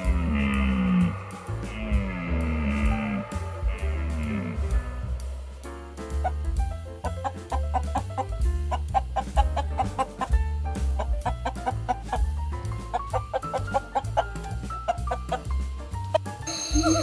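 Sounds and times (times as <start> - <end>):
music with beat and bass: 0.0 - 17.0.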